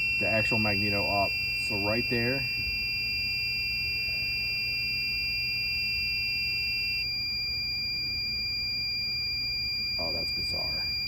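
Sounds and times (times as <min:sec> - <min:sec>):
high electronic tones: 0:00.0 - 0:11.0.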